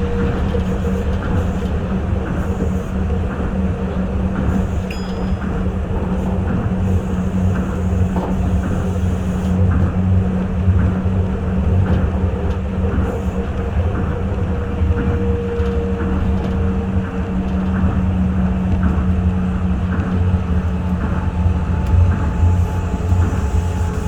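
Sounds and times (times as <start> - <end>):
train rumble and hum: 0.0 - 24.0.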